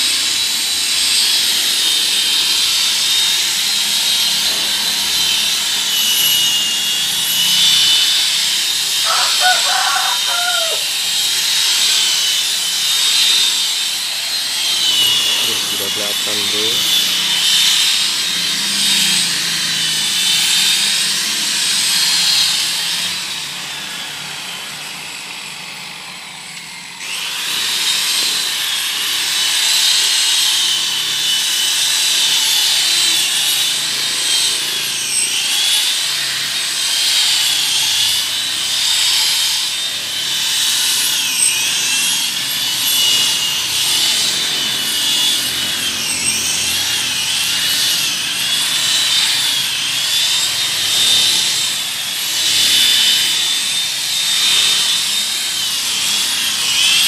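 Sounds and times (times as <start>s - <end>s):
rotary polisher whining: 0.0s - 57.0s.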